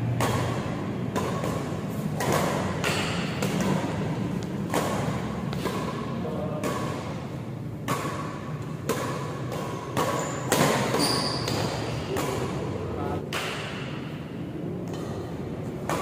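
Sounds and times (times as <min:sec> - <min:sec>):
rackets hitting shuttlecock: 0:00.0 - 0:16.0.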